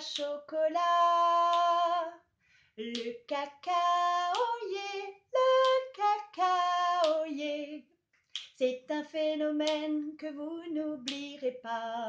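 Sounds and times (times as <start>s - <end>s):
woman singing unaccompanied: 0.0s - 2.2s, 2.8s - 7.9s, 8.6s - 12.0s.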